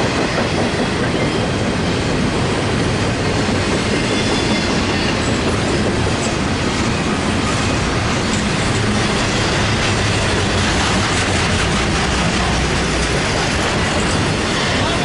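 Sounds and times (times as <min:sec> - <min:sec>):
steel train wheels on rails: 0:00.0 - 0:15.0.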